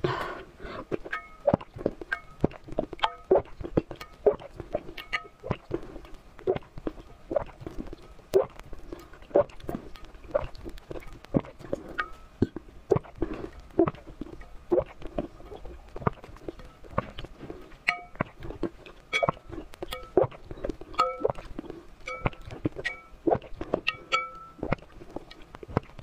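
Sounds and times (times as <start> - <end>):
slurping and swallowing raw eggs: 0.0 - 26.0.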